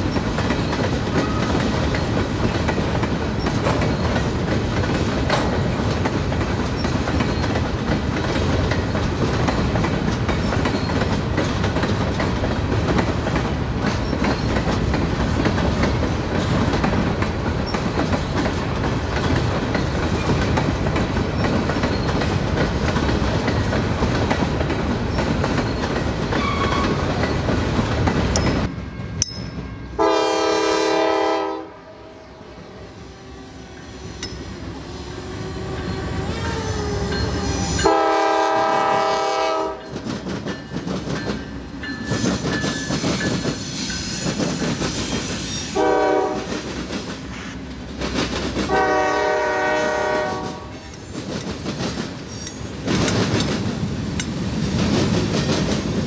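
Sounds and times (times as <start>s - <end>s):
train wheels clacking over rail joints: 0.0s - 30.2s, 35.8s - 56.0s.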